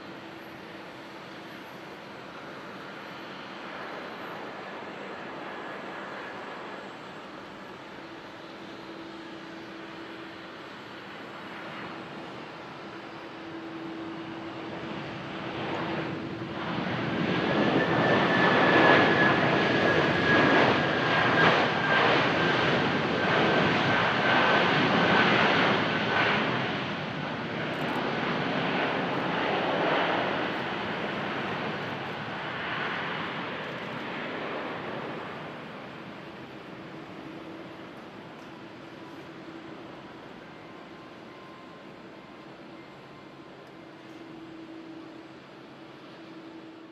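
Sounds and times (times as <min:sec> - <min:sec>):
jet engines with high whine: 0:00.0 - 0:46.9.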